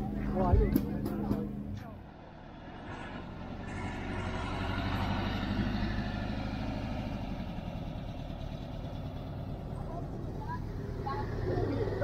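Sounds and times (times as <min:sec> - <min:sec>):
van engine driving past: 0:00.0 - 0:12.0.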